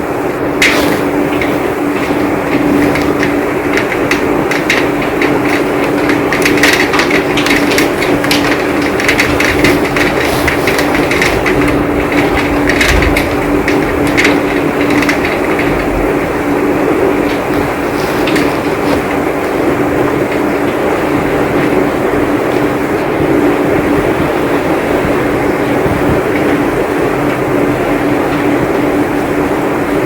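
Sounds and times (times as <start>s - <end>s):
heavy rain pouring: 0.0s - 30.0s
low steady hum: 0.0s - 30.0s.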